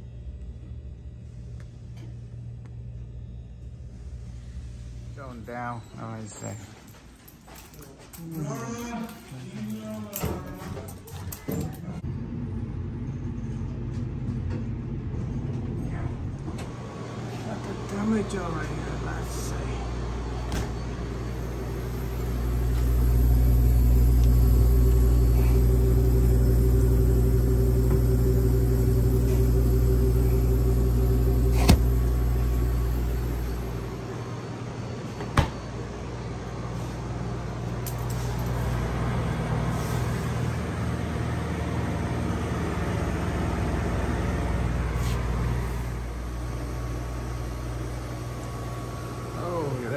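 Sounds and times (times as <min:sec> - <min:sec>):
refrigerator machinery hum: 0:00.0 - 0:49.9.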